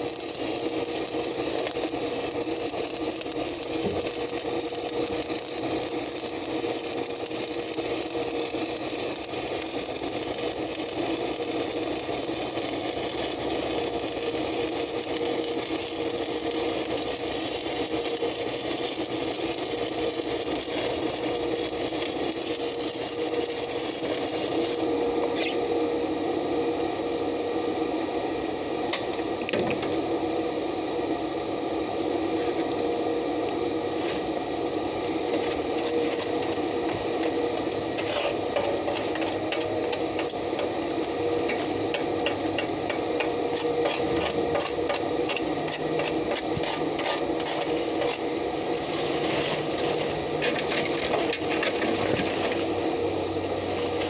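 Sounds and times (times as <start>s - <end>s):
welding arc crackling: 0.0s - 25.7s, 33.9s - 54.0s.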